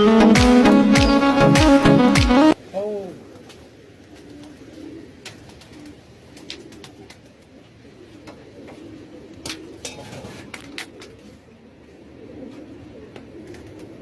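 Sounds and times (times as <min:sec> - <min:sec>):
pigeons cooing: 0:02.5 - 0:14.0.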